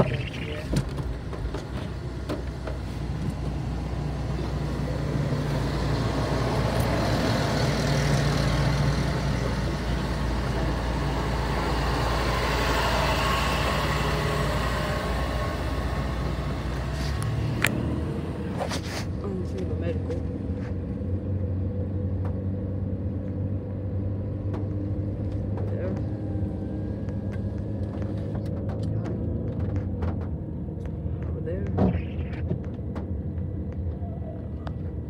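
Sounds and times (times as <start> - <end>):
car engine hum from inside: 0.0 - 35.0.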